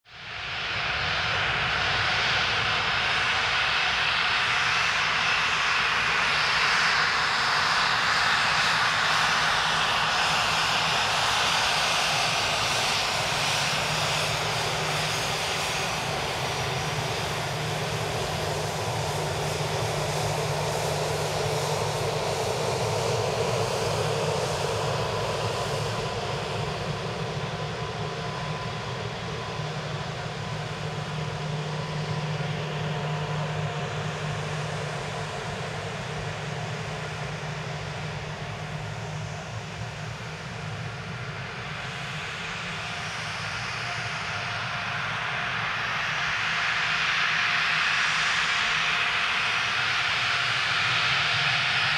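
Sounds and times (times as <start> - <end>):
jet engines whining: 4.8 - 51.9.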